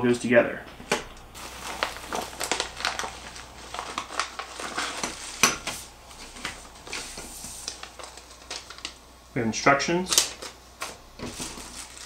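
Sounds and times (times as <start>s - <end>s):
plastic bags crinkling: 0.8s - 9.1s, 10.0s - 12.0s.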